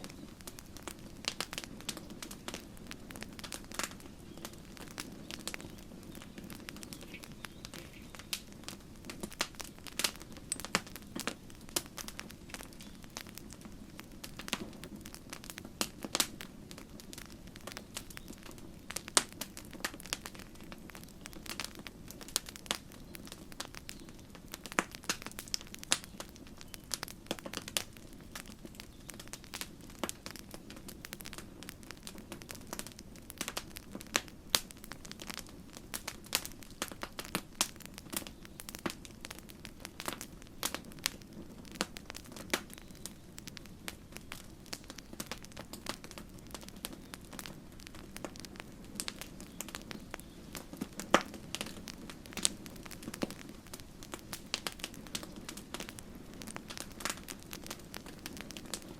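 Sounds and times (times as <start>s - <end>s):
burning wood popping and snapping: 0.0s - 58.9s
flames rushing: 0.3s - 23.9s, 24.6s - 58.9s.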